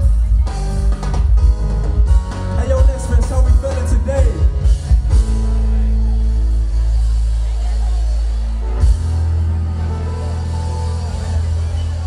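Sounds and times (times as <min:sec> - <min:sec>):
held bass chord: 0:00.0 - 0:12.0
loud live music with pulsing bass: 0:00.0 - 0:12.0.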